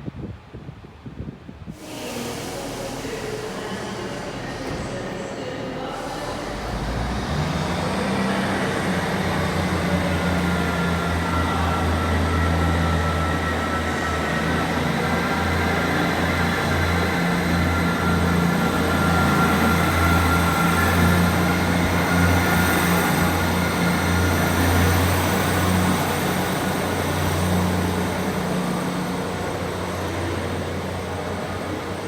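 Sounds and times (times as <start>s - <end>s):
train passing: 1.7s - 32.0s.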